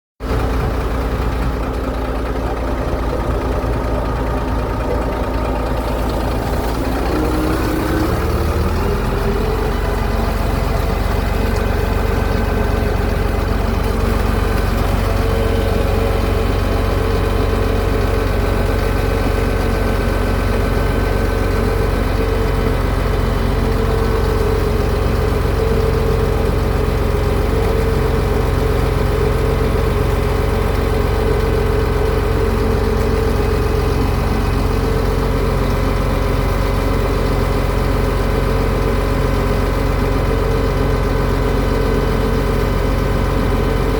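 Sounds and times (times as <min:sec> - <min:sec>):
heavy machinery engine running: 0:00.2 - 0:43.9.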